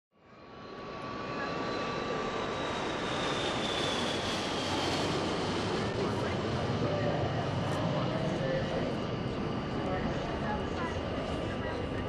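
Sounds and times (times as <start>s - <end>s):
aircraft engine noise: 0.3s - 12.0s.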